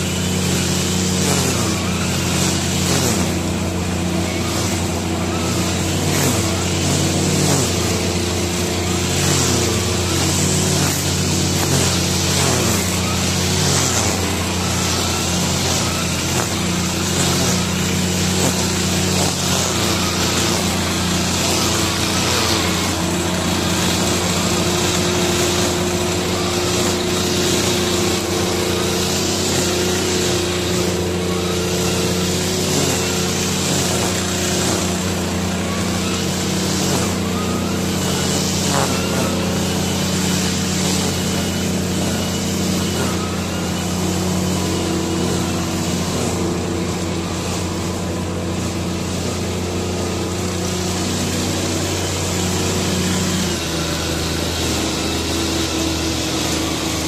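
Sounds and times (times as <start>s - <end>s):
brush cutter engine running: 0.0s - 57.0s
lawn mower engine running: 0.0s - 57.0s
trimmer head whirring through grass: 0.0s - 57.0s.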